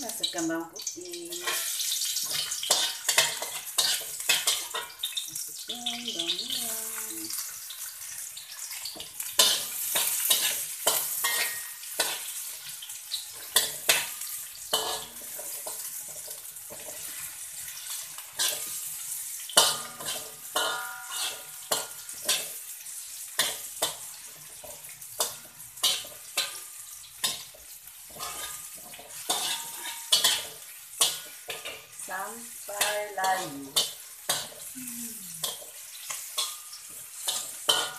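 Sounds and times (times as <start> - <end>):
oil sizzling: 0.0 - 37.9
metal spatula scraping wok: 1.3 - 34.6, 35.4 - 37.9.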